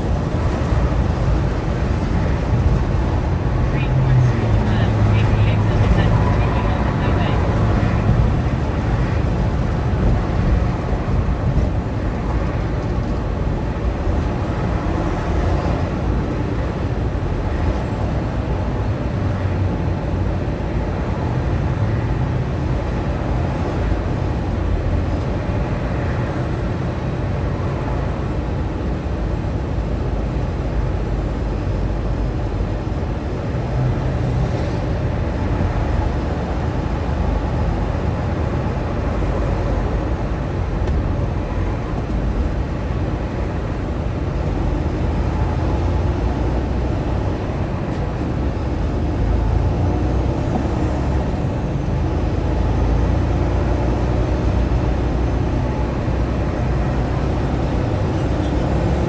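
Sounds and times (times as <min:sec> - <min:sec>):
truck engine droning: 0:00.0 - 0:21.8, 0:29.3 - 0:59.0.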